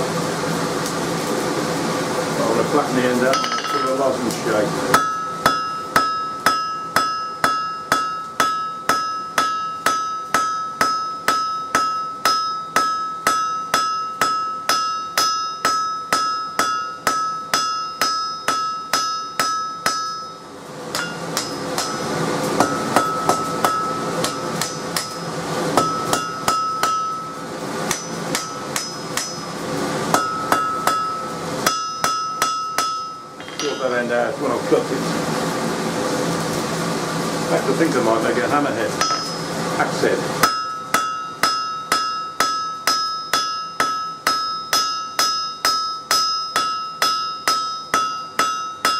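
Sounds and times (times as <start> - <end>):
hammer blows on anvil: 3.2 - 34.2, 39.0 - 39.6, 40.4 - 48.9.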